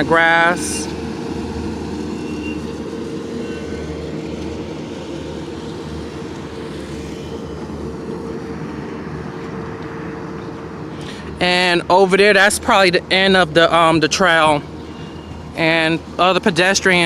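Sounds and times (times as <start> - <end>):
lawn mower engine droning: 0.0 - 17.0.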